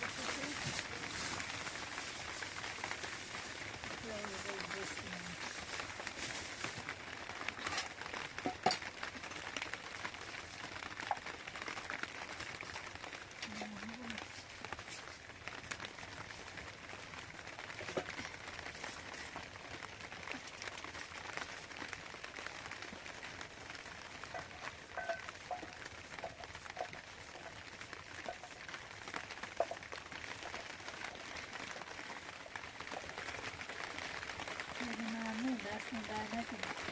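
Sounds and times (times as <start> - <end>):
steady rain pattering: 0.0 - 36.9.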